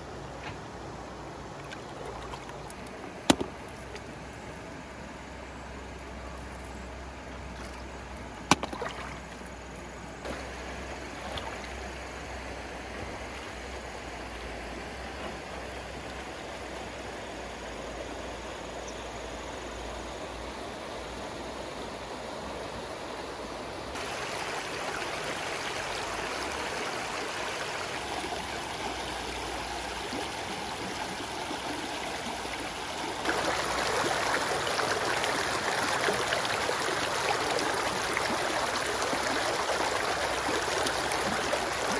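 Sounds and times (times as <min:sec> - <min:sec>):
stream water running over rocks: 0:00.8 - 0:41.9.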